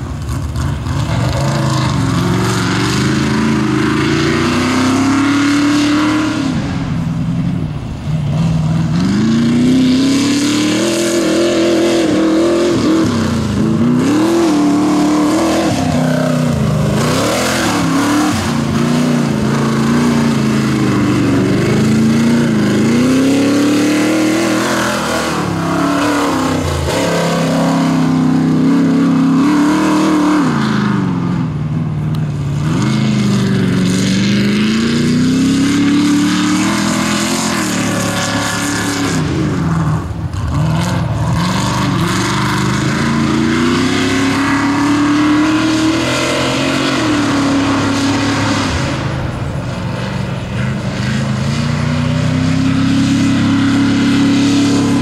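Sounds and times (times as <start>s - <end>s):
race vehicle engine revving: 0.0s - 55.0s.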